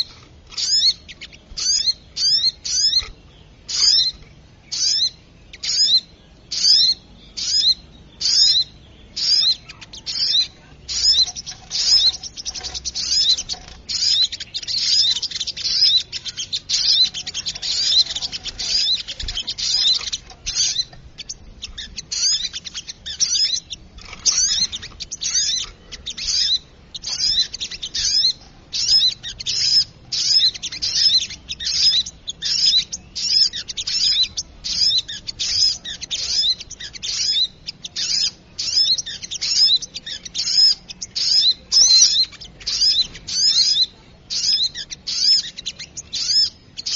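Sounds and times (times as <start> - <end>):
bird calling high-pitched: 0.0 - 46.9.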